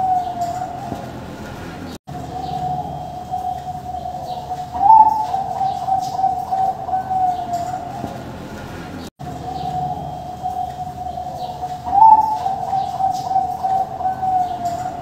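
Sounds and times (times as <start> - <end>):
dove cooing: 0.0 - 1.4, 2.1 - 8.5, 9.3 - 15.0.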